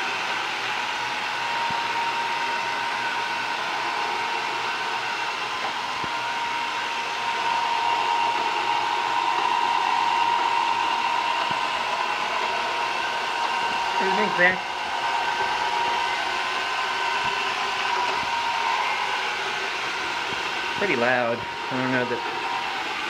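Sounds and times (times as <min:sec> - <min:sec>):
robot vacuum whirring: 0:00.0 - 0:23.0.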